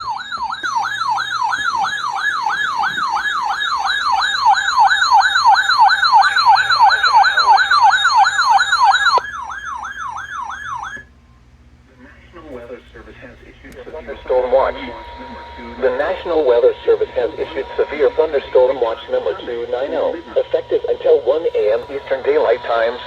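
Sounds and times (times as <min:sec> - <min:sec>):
electronic siren wailing: 0:00.0 - 0:11.1, 0:13.3 - 0:23.0.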